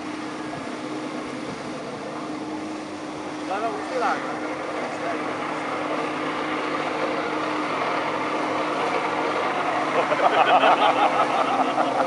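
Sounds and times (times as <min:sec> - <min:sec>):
jet ski engine high revs: 0:00.0 - 0:12.0
water jets rushing: 0:00.0 - 0:12.0.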